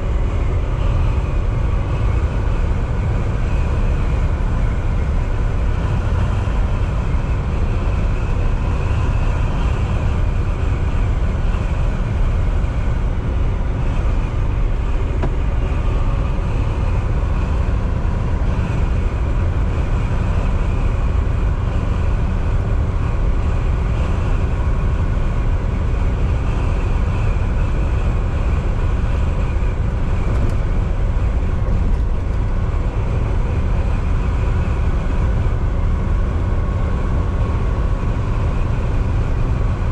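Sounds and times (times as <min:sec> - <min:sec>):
diesel engine drone: 0:00.0 - 0:39.9
tyre and road noise: 0:00.0 - 0:39.9.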